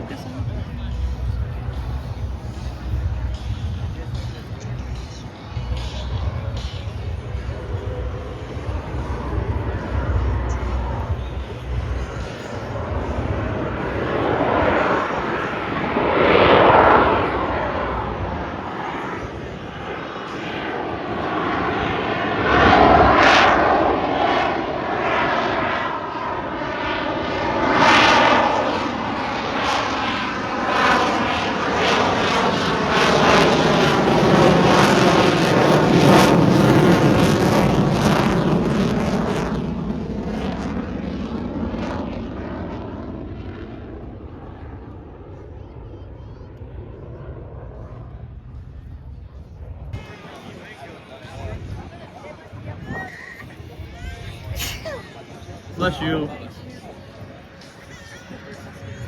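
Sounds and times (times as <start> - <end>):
jet aircraft flypast: 0.0 - 59.0.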